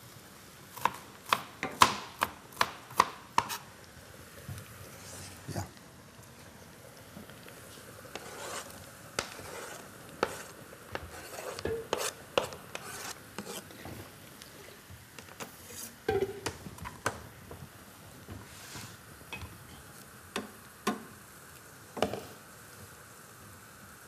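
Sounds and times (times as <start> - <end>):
onions sizzling in pan: 0.0 - 24.0.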